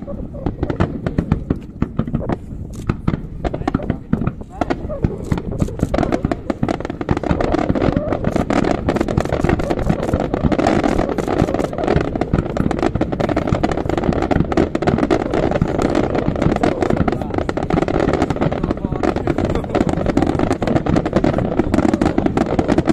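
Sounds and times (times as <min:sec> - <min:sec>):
fireworks bangs and crackling: 0:00.0 - 0:22.9.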